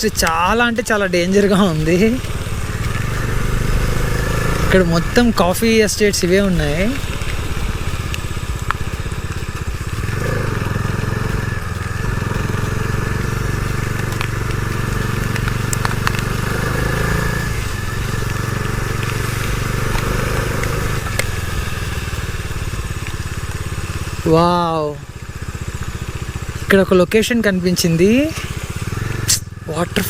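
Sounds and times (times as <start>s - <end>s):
motorcycle engine running: 0.0s - 30.0s
road noise: 0.0s - 30.0s.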